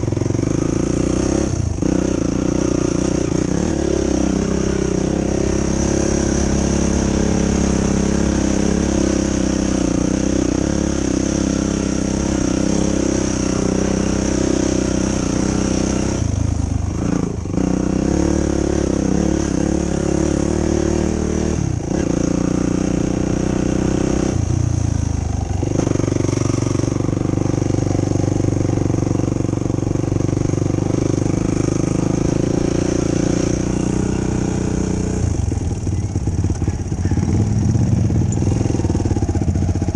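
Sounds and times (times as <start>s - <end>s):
engine revving under varying throttle: 0.0s - 39.9s.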